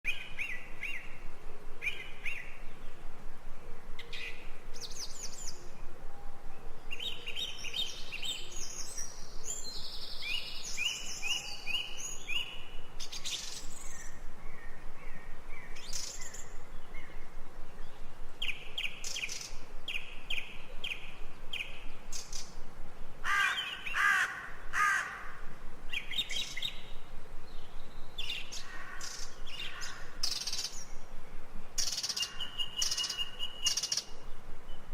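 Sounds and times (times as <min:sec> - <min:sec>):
faint outdoor background: 0:00.0 - 0:34.9
birds chirping and trilling: 0:00.1 - 0:34.9.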